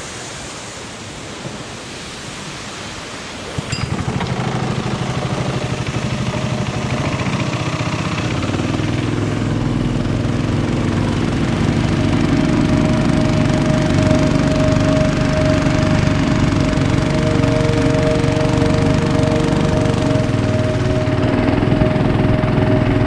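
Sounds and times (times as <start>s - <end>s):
small engine running: 3.6s - 23.0s.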